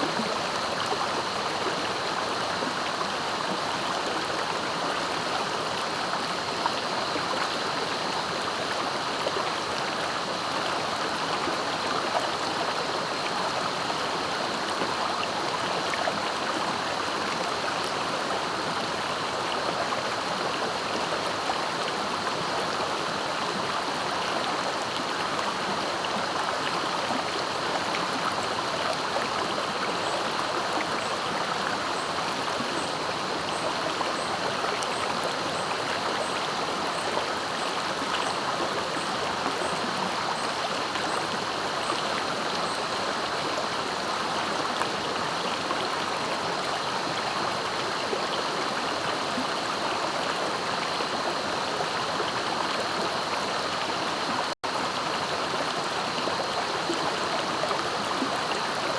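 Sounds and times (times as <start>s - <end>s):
swift river water flowing: 0.0s - 58.9s.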